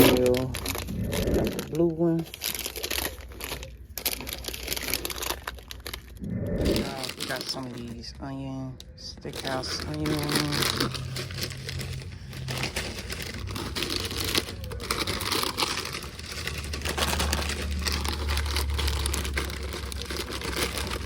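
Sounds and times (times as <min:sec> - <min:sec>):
plastic snack bags crinkling: 0:00.0 - 0:21.0
low hum: 0:00.1 - 0:20.9.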